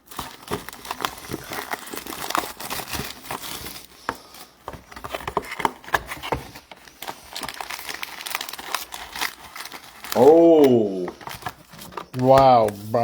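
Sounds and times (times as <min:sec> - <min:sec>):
card pack wrappers crinkling: 0:00.0 - 0:13.0
cards being handled: 0:00.1 - 0:13.0.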